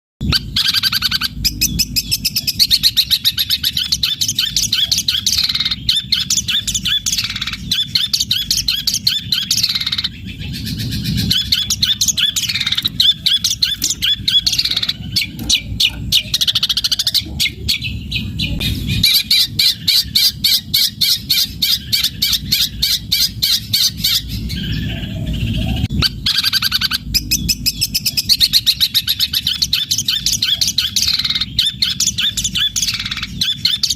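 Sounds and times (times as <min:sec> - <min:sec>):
bird chattering song: 0:00.2 - 0:33.9.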